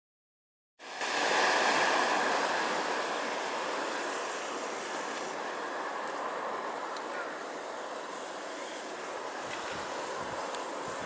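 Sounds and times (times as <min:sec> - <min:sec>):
strong blizzard wind rushing: 0:00.8 - 0:11.0
wind buffeting microphone: 0:01.0 - 0:11.0.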